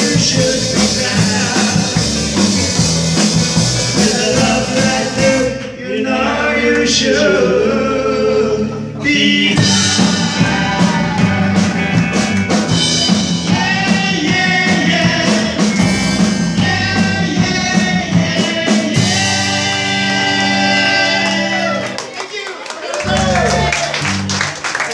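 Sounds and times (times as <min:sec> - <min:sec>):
live rock band playing: 0:00.0 - 0:05.8, 0:07.3 - 0:22.1, 0:23.0 - 0:24.9.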